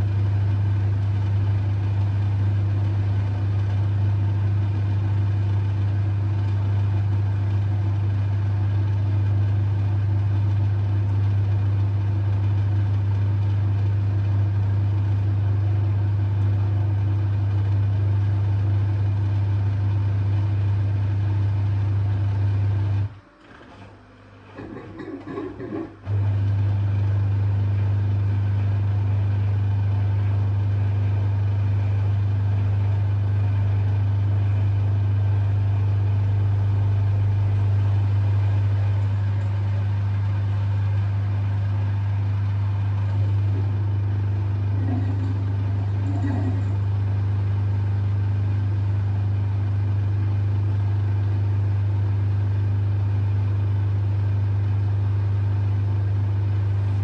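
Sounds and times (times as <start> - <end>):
washing machine drain pump hum: 0.0 - 57.0.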